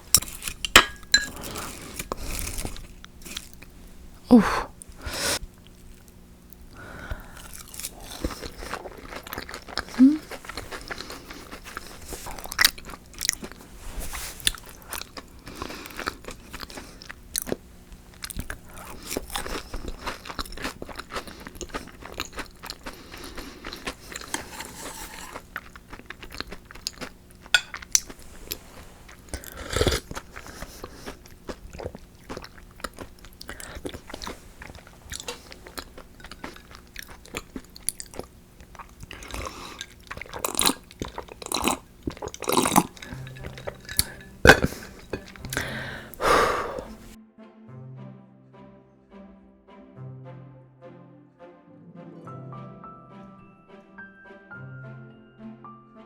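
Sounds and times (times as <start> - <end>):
crunching and chewing crispy food: 0.0 - 4.0, 4.7 - 47.1.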